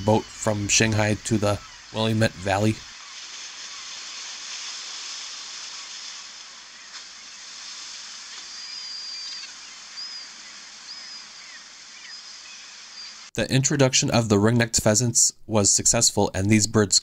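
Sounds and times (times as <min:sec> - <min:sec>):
steady hissing ambient noise: 0:00.0 - 0:17.0.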